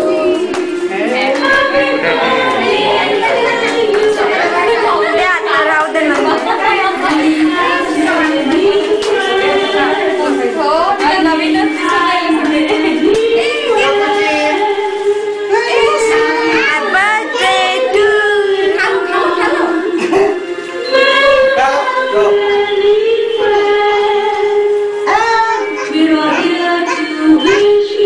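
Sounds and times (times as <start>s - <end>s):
held melody line: 0.0s - 28.0s
song with singing voices: 0.0s - 28.0s.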